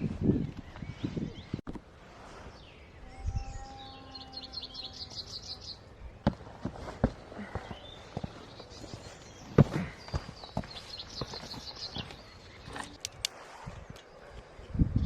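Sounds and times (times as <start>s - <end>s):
songbird singing: 0.0s - 1.7s, 2.4s - 15.0s.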